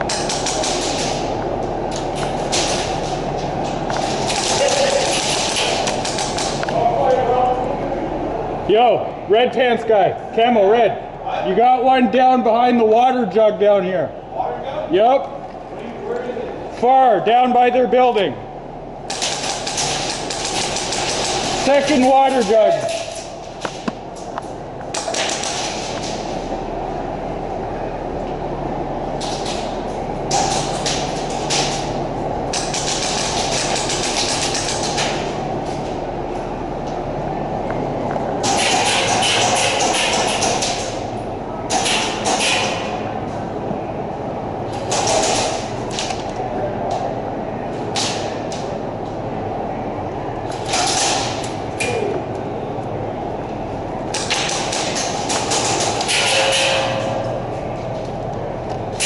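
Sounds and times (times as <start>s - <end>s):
low indoor rumble: 0.0s - 59.0s.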